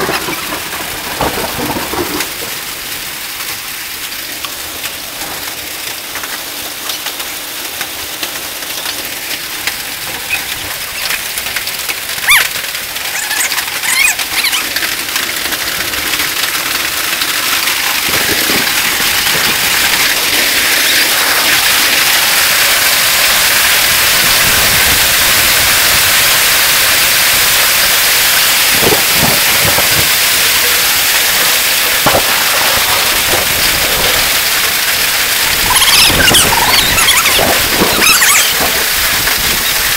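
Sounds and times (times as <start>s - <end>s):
hail and rain pelting: 0.0s - 39.9s
hailstones cracking: 0.0s - 39.9s.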